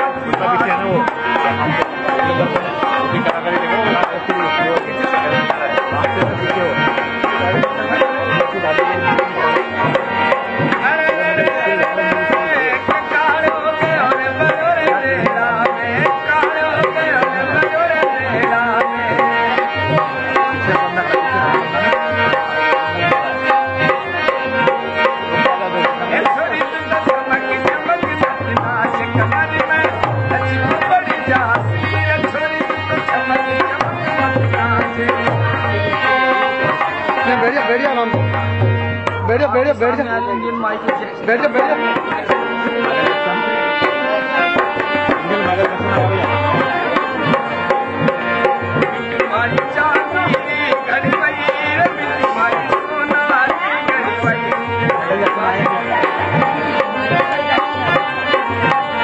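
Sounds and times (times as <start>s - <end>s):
hand drum beating quick rhythm: 0.0s - 59.0s
harmonium melody: 0.0s - 59.0s.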